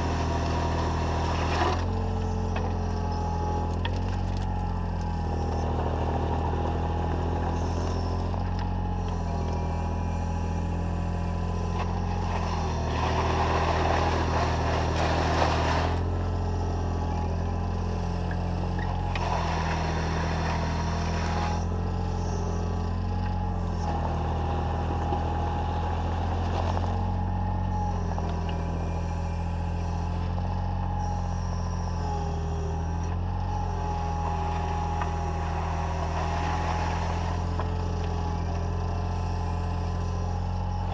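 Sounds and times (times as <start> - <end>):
excavator diesel engine hum: 0.0 - 40.9
hydraulic whine: 0.0 - 40.9.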